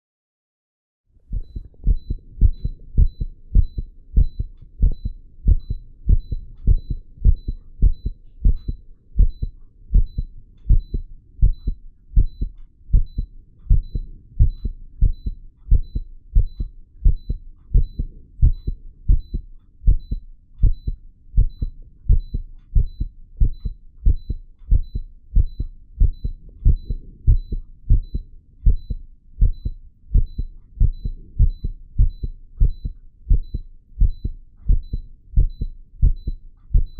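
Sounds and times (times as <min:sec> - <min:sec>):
heart beating fast: 0:01.3 - 0:36.9
faint high monitor beep: 0:01.4 - 0:36.9.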